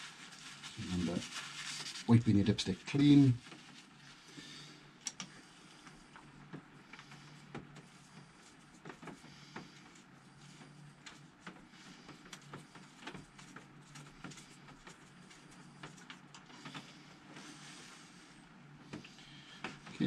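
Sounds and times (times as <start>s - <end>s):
paper towel rustling: 0.0s - 20.0s.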